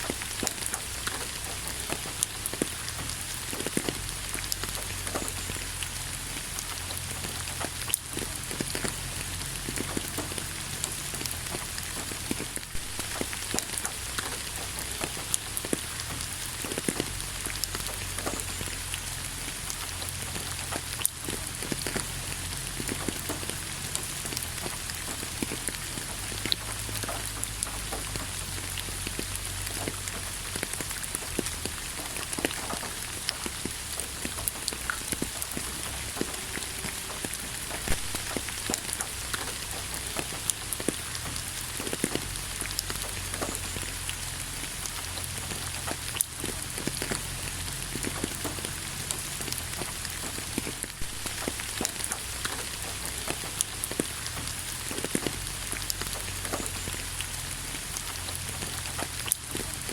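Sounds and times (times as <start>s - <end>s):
low steady rumble: 0.0s - 59.9s
raindrops tapping: 0.0s - 59.9s
steady rain falling: 0.0s - 59.9s.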